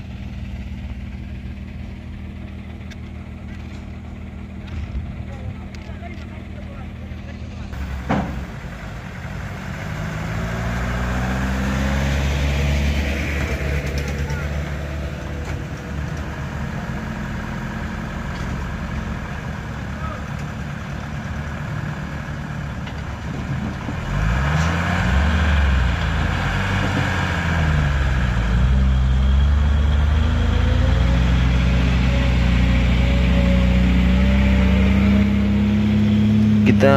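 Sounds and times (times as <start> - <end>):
heavy diesel truck engines labouring: 0.0 - 36.9.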